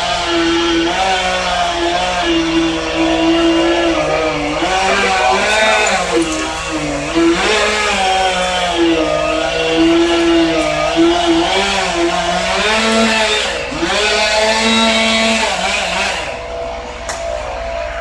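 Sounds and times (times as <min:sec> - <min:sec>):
chainsaw cutting: 0:00.0 - 0:17.7.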